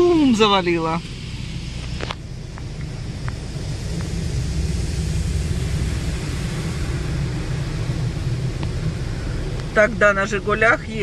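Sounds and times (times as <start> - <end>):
car wash jets spraying water: 0.0 - 11.0
deep rumble: 0.0 - 11.0.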